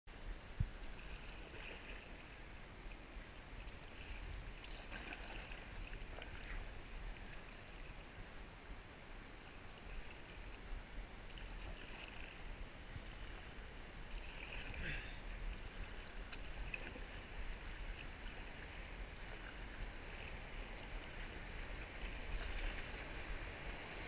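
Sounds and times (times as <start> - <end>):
paddle splashing in water: 0.8 - 8.2, 11.2 - 24.0.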